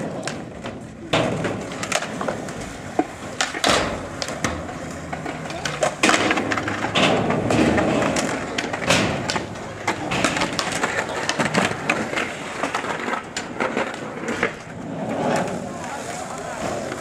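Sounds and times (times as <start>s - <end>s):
skateboard wheels rolling on concrete: 0.0s - 17.0s
skateboards clacking on ground: 0.0s - 17.0s.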